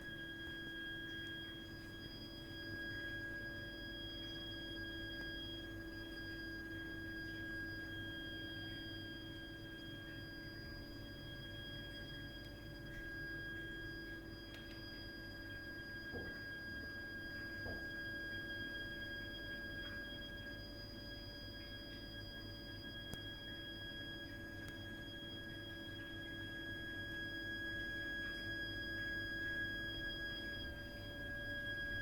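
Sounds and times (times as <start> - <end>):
high-pitched shrill whistle: 0.0 - 32.0.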